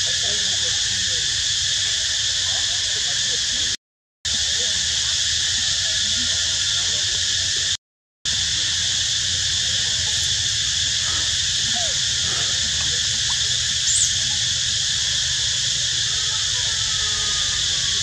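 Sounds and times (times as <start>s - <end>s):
insect chorus hiss: 0.0s - 18.0s.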